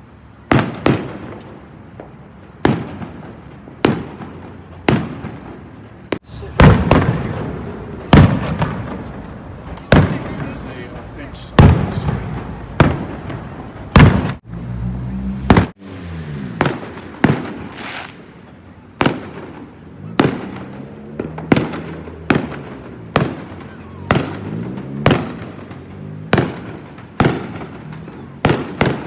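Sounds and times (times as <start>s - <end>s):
fireworks bursting with bangs: 0.5s - 5.5s, 6.2s - 14.4s, 16.5s - 29.0s.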